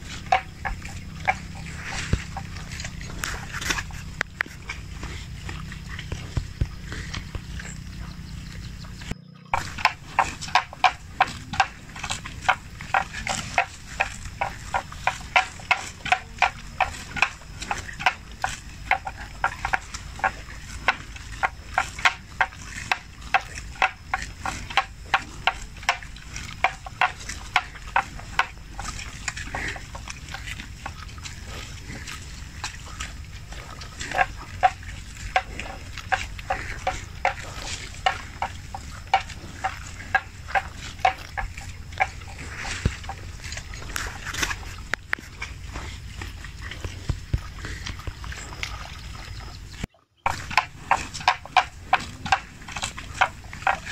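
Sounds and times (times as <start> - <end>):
buffalo tearing and chewing grass: 0.0 - 53.9.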